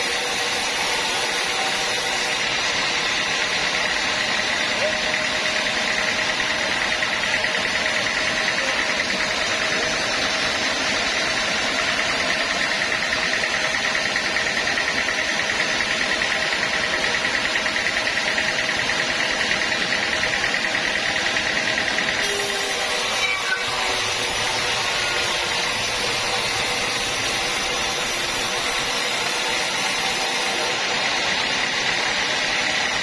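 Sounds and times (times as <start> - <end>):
high mechanical whine: 0.0 - 33.0
sawmill machinery humming: 0.0 - 33.0.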